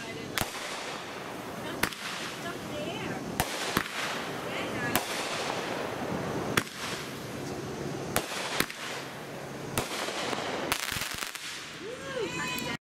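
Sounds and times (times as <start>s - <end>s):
fireworks bangs: 0.0s - 12.8s
steady background hiss: 0.0s - 12.8s.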